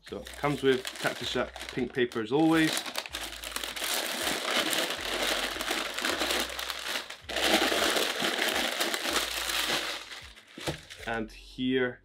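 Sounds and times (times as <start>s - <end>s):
tissue paper rustling and crinkling: 0.2s - 11.1s.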